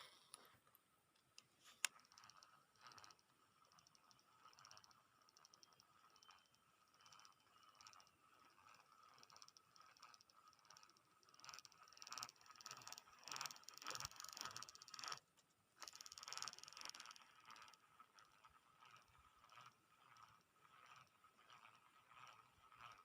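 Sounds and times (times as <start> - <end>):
fishing reel ticking whir: 0.0 - 23.0.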